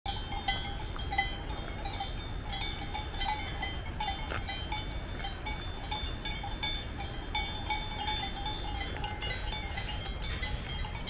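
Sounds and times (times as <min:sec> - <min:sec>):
cowbells clanking: 0:00.1 - 0:11.0.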